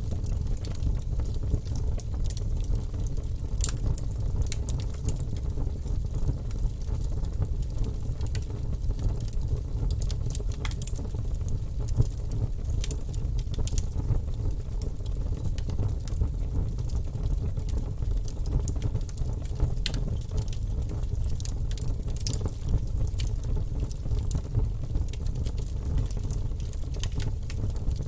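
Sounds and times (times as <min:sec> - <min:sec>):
fire crackling and popping: 0:00.0 - 0:28.0
low rumble of fire: 0:00.0 - 0:28.0.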